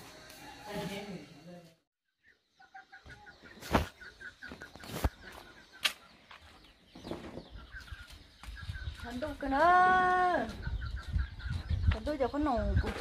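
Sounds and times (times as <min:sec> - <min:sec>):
chickens clucking: 0:02.1 - 0:13.0.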